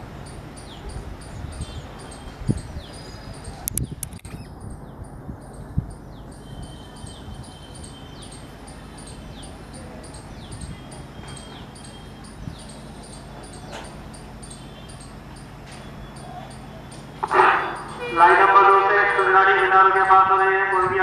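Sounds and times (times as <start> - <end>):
diesel locomotive engine rumble: 0.0 - 21.0
high repeating chirp: 0.2 - 21.0.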